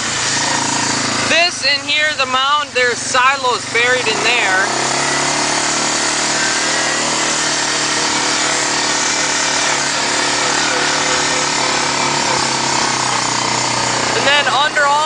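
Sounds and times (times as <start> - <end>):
four-wheeler engine running: 0.0 - 15.0.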